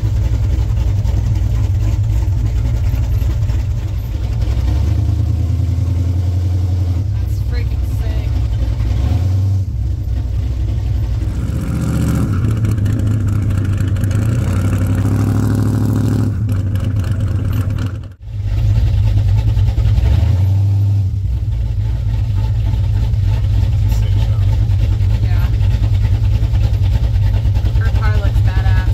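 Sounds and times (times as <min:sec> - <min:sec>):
car engine rumbling: 0:00.0 - 0:28.9.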